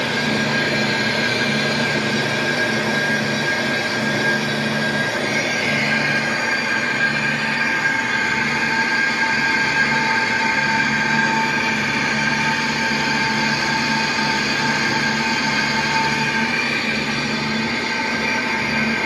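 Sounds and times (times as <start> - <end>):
lathe running: 0.0 - 19.0
lathe tool squealing on metal: 0.0 - 19.0.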